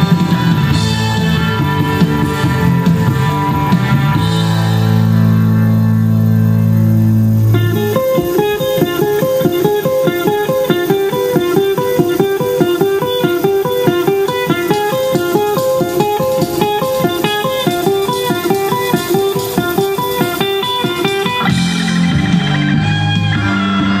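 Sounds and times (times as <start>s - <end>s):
fast plucked-string figure: 0.0s - 24.0s.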